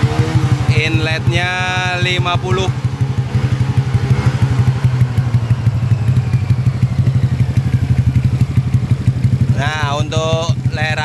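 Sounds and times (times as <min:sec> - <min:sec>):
scooter engine idling: 0:00.0 - 0:11.0.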